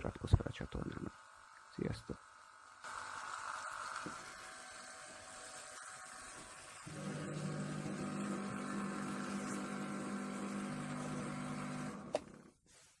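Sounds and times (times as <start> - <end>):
electric pump humming: 0.0 - 12.6.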